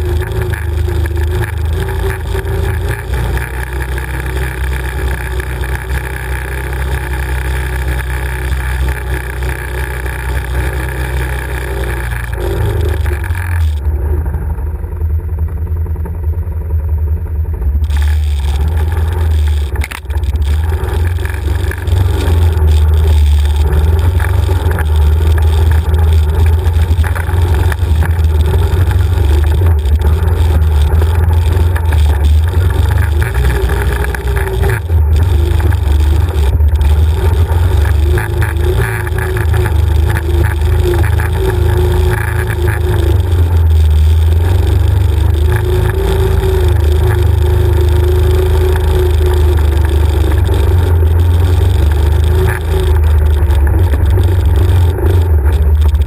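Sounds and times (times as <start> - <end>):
off-road vehicle engine droning: 0.0 - 56.0.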